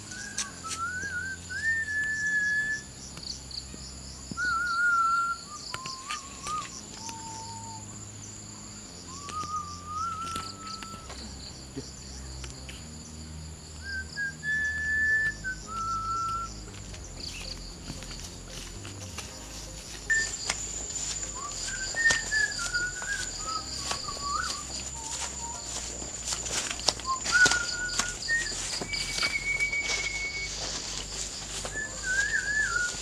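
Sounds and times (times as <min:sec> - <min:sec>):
person whistling a slow tune: 0:00.0 - 0:03.0, 0:04.3 - 0:08.0, 0:09.0 - 0:11.4, 0:13.8 - 0:18.4, 0:19.3 - 0:33.0
insects droning: 0:00.0 - 0:33.0.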